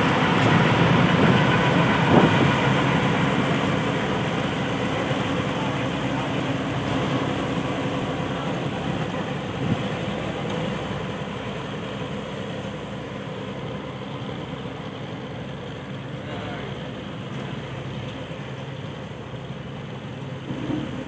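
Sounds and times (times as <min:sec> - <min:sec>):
ferry engine droning: 0:00.0 - 0:21.0.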